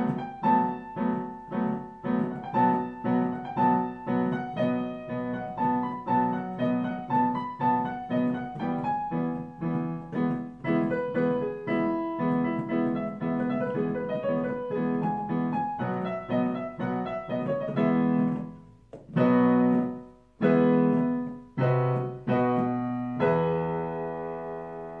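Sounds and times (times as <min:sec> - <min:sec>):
piano playing: 0:00.0 - 0:25.0.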